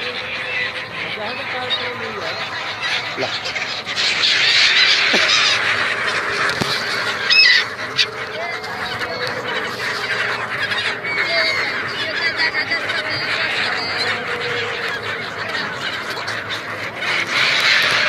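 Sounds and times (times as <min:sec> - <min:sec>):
flock of birds calling: 0:00.0 - 0:18.0.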